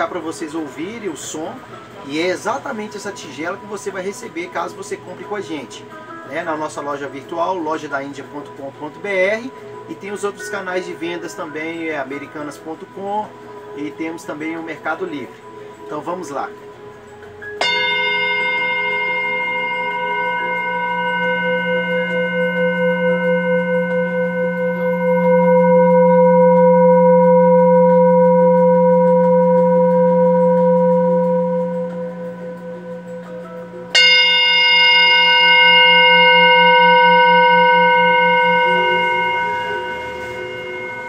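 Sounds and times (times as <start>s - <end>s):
singing bowl ringing: 0.0s - 16.8s, 17.4s - 41.0s.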